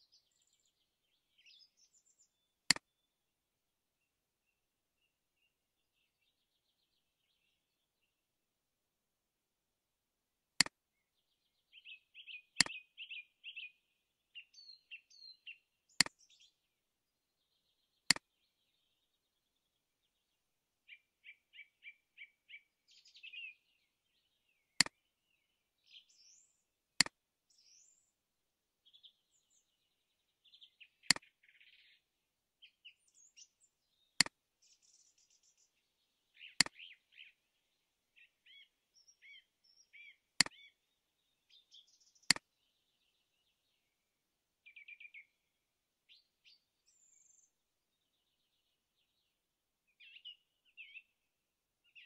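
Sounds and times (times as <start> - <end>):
small birds chirping: 0.0 - 3.3, 4.0 - 8.3, 10.6 - 28.2, 28.8 - 52.0.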